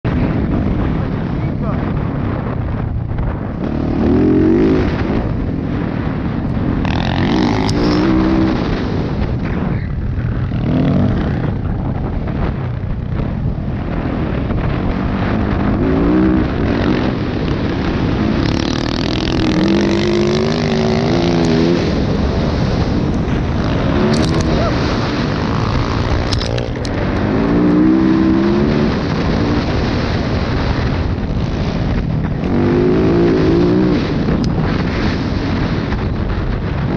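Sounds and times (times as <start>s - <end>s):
wind noise: 0.0s - 36.9s
dirt bike engine revving: 1.8s - 36.9s.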